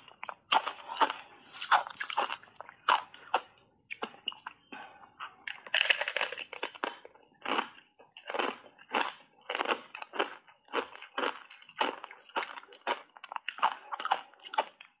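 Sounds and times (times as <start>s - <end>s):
ice crunching while chewed: 0.0s - 15.0s.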